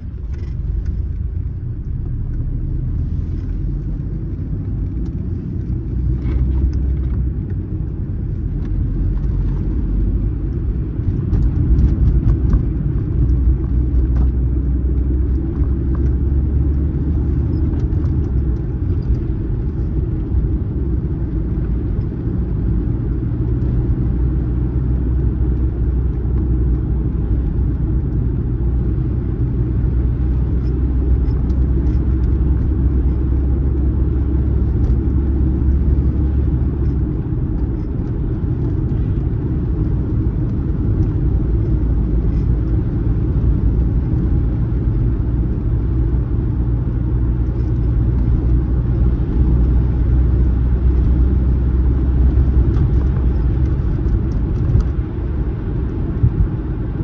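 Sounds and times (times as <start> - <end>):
vehicle rumble: 0.0 - 57.0.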